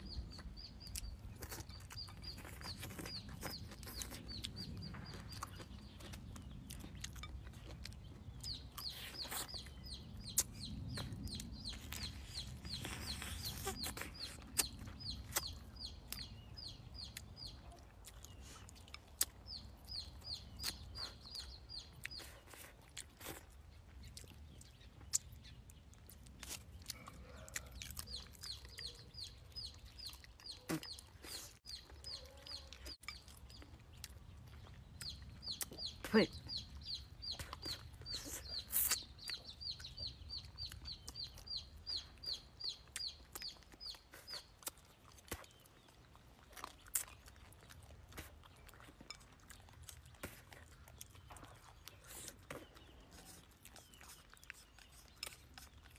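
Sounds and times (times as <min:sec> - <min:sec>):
close chewing: 0:00.0 - 0:55.9.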